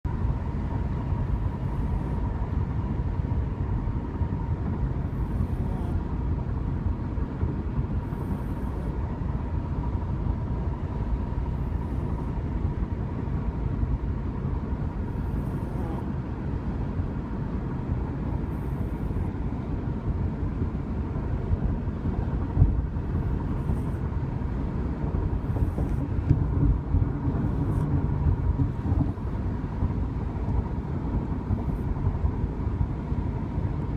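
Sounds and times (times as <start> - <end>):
car road and engine rumble: 0.0 - 33.9
faint steady whine: 0.1 - 33.9.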